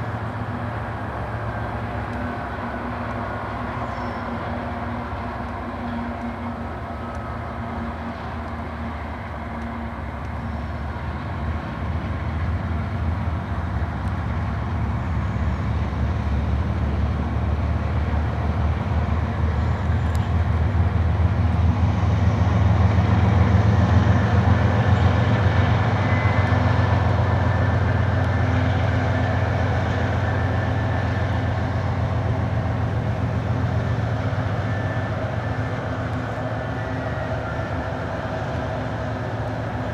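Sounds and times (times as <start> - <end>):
diesel freight train rumbling: 0.0 - 39.9.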